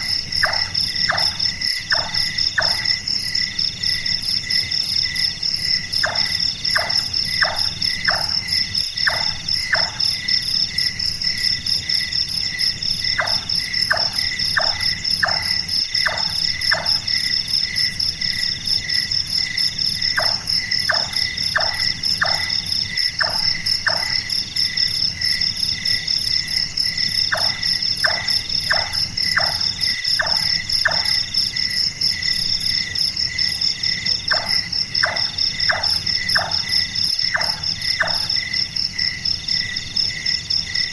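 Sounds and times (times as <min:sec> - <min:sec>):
crickets and night insects: 0:00.0 - 0:40.9.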